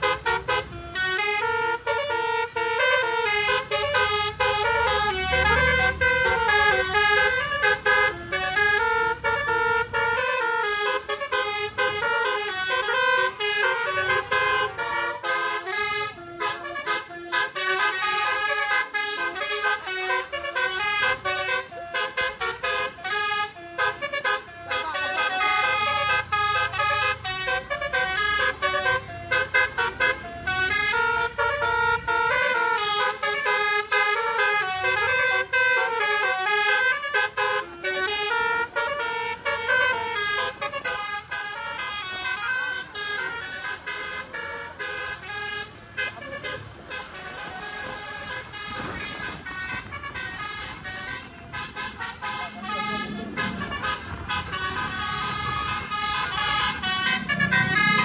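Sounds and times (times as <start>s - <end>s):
multi-tone bus horn tune: 0.0s - 58.0s.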